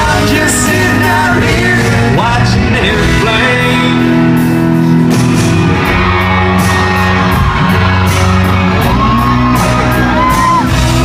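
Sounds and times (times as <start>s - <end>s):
country-rock band playing: 0.0s - 11.0s.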